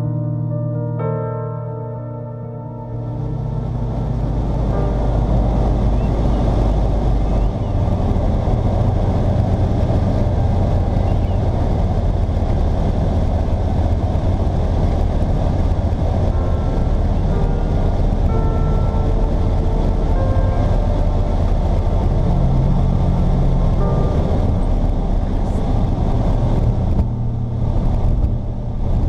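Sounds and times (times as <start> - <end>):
airflow noise: 0.0 - 29.0
propeller engine drone: 0.0 - 29.0.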